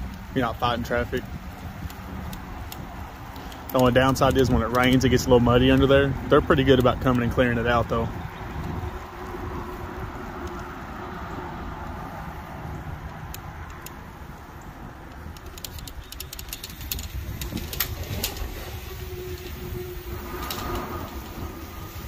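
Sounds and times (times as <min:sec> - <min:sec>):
sharp ticks and clicks: 0:00.0 - 0:22.0
wind on microphone: 0:00.0 - 0:22.0.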